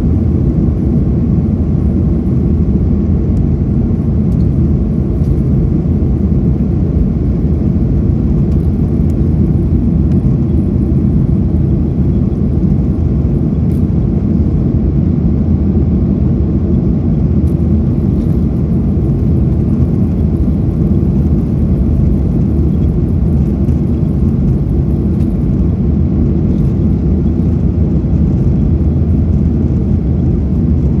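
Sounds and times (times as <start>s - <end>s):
jet engines rumbling in cabin: 0.0s - 31.0s.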